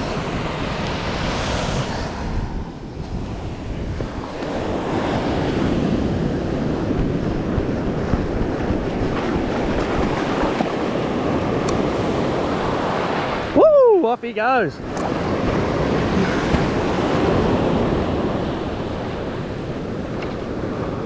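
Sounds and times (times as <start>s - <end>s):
wind buffeting microphone: 0.0s - 14.0s, 14.7s - 21.0s
ocean surf breaking: 0.0s - 21.0s.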